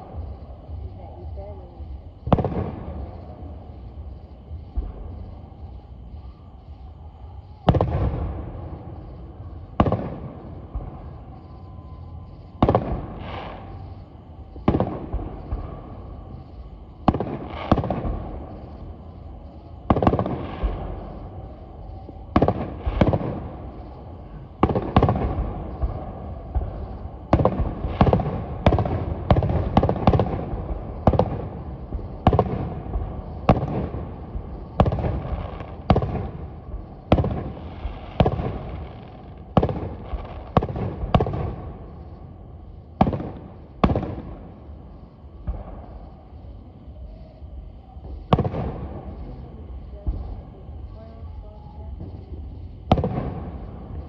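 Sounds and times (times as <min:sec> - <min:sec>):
fireworks bursting with rumbling tail: 0:00.0 - 0:54.0.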